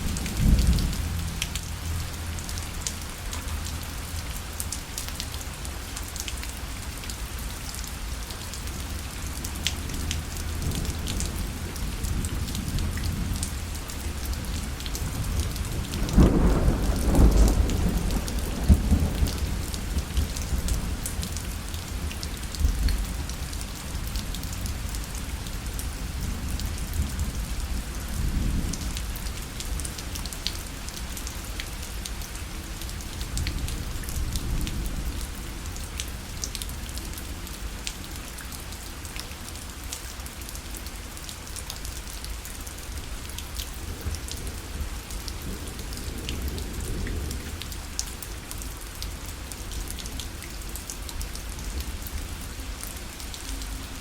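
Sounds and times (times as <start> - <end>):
rain hissing on a parasol: 0.0 - 54.0
raindrops ticking on fabric: 0.0 - 54.0.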